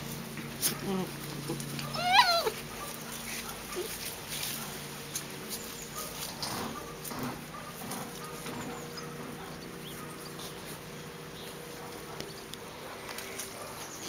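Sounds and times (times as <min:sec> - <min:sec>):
puppies scuffling and scratching: 0:00.0 - 0:14.0
puppies yipping: 0:00.6 - 0:14.0.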